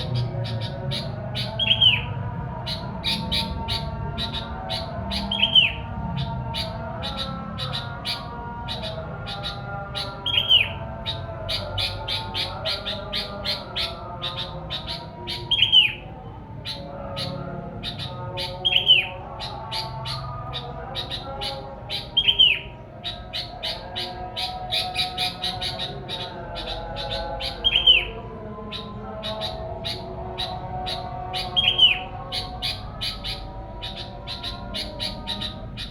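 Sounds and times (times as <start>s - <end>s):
bird chirping: 0.0s - 35.9s.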